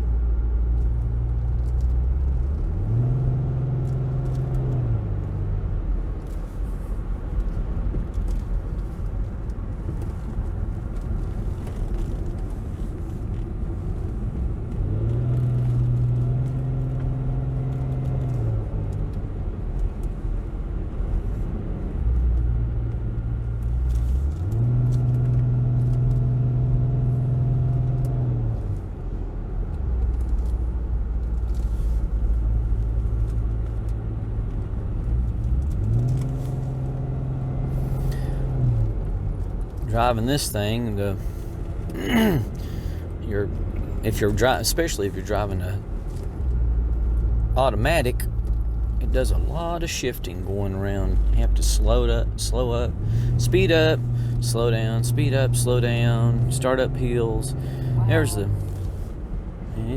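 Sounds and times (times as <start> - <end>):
road rumble: 0.0 - 59.9
car engine shifting gears: 0.2 - 59.9.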